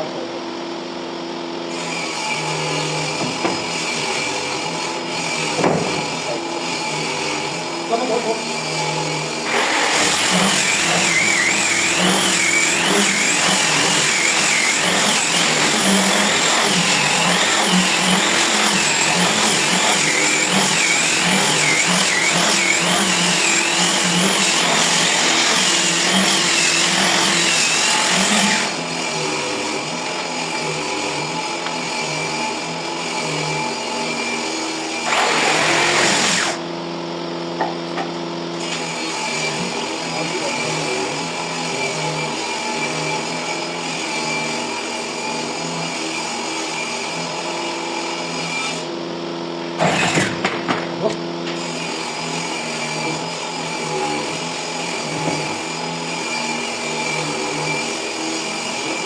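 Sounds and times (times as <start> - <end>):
angle grinder grinding wood: 1.6 - 59.0.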